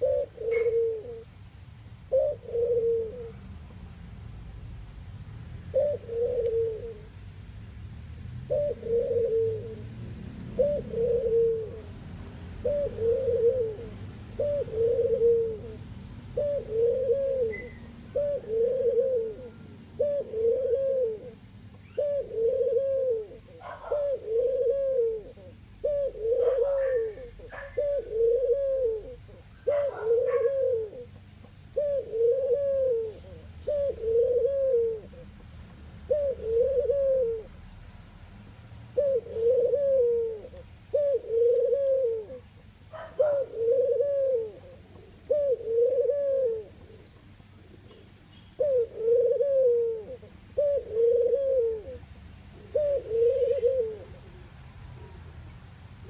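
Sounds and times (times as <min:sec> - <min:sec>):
dove cooing: 0:00.0 - 0:01.4, 0:02.0 - 0:03.6, 0:05.7 - 0:07.2, 0:08.5 - 0:37.8, 0:38.9 - 0:55.3.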